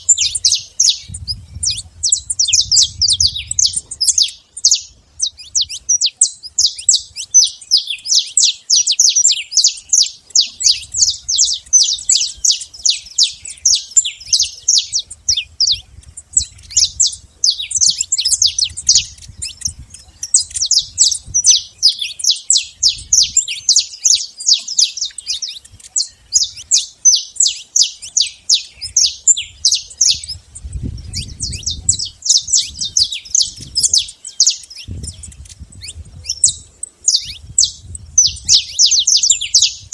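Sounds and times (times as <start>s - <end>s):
finch chirping song: 0.0s - 39.9s.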